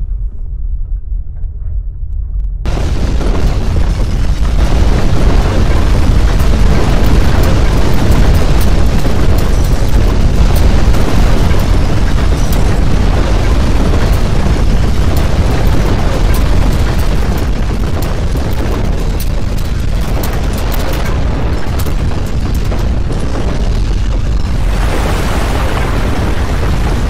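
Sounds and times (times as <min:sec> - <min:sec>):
earthquake deep rumble: 0:00.0 - 0:27.0
objects rattling and clattering: 0:02.7 - 0:24.8.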